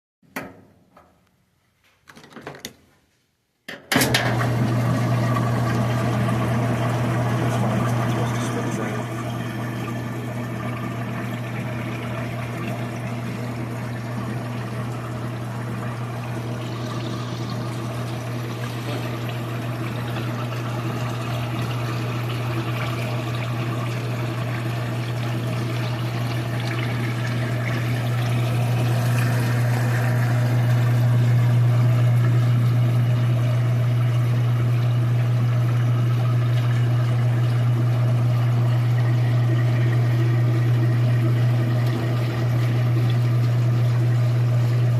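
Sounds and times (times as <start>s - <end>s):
washing machine motor and pump hum: 3.7s - 44.9s
draining water rushing: 4.1s - 44.9s.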